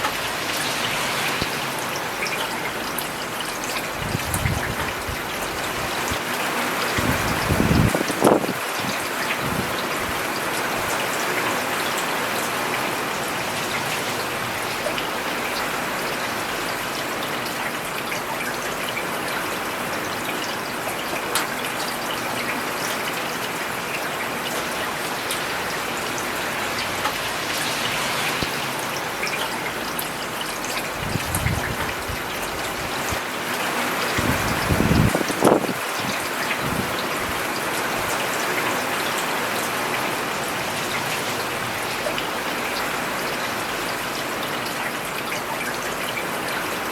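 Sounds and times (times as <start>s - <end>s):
rain on a paved road: 0.0s - 46.9s
raindrops ticking and splashing: 0.0s - 46.9s.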